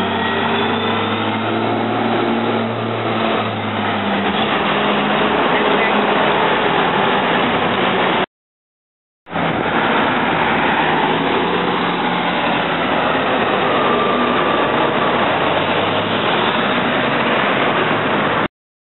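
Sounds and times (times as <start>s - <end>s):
bus driving past: 0.0s - 8.3s, 9.3s - 18.5s
street traffic: 0.0s - 8.3s, 9.3s - 18.5s.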